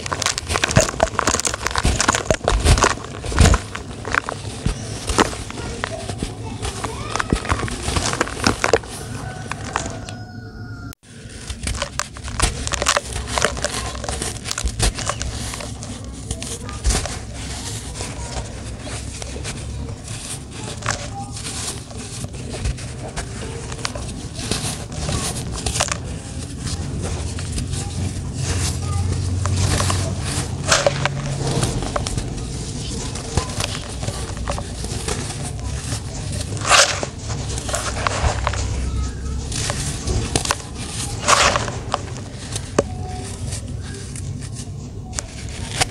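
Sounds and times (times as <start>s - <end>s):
dry dirt crunching in hands: 0.0s - 10.2s, 11.3s - 45.9s
powder pouring through fingers: 0.0s - 10.2s, 11.1s - 45.9s.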